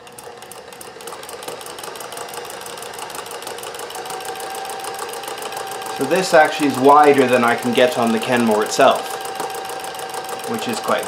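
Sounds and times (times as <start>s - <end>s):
sewing machine motor whine: 0.0s - 11.0s
sewing machine needle strokes: 0.0s - 11.0s.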